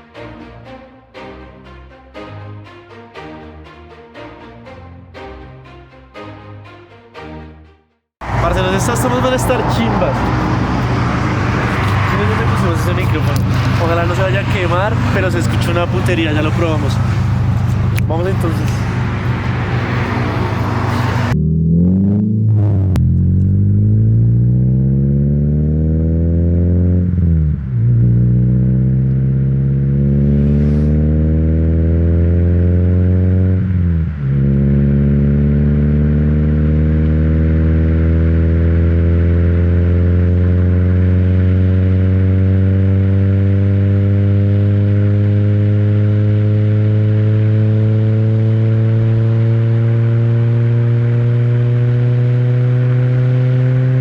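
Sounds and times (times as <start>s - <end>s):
car exhaust accelerating: 8.2s - 54.0s.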